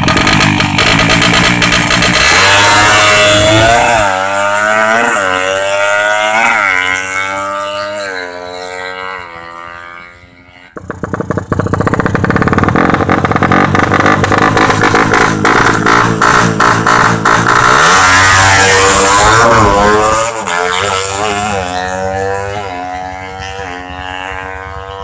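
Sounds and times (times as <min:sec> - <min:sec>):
motorcycle accelerating through gears: 0:00.0 - 0:25.0
motorcycle engine revving close up: 0:00.0 - 0:25.0.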